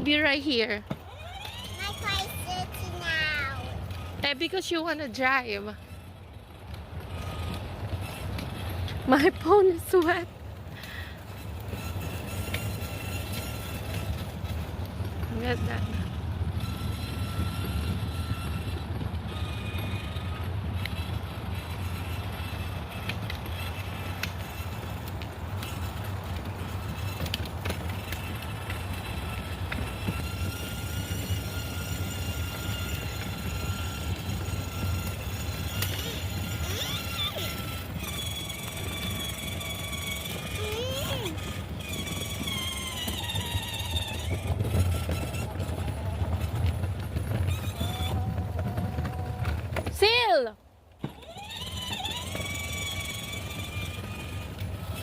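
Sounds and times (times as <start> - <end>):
toy car rumbling along path: 0.0 - 55.0.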